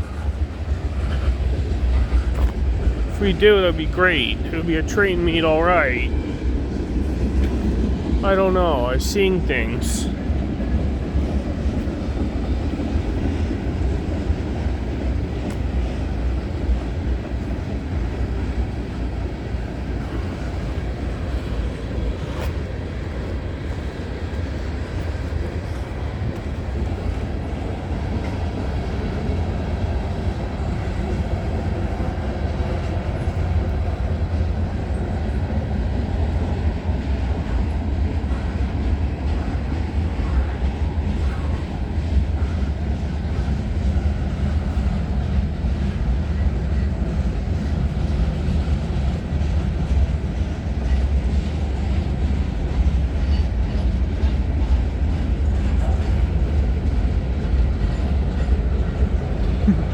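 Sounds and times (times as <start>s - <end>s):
freight train cars rolling past: 0.0s - 59.9s.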